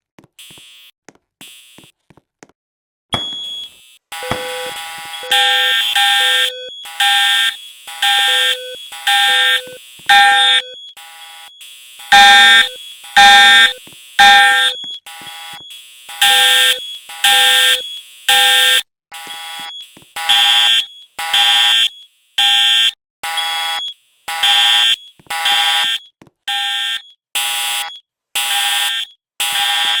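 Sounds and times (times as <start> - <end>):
fire alarm beeping: 3.1 - 30.0.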